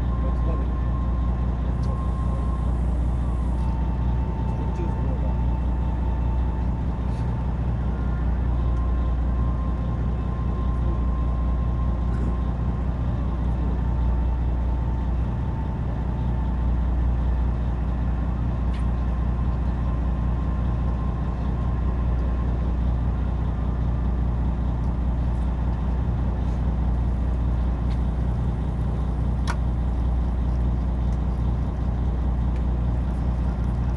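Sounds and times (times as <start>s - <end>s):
boat engine humming: 0.0s - 33.9s.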